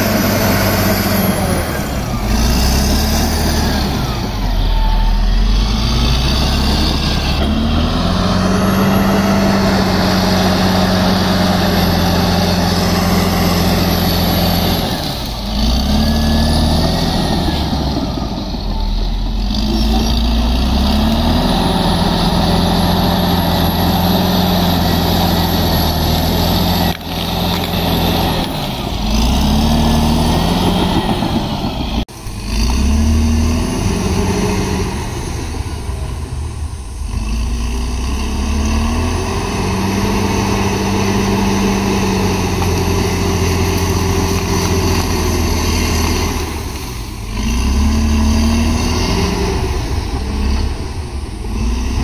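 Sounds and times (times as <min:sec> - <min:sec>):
bulldozer diesel engine revving: 0:00.0 - 0:52.0.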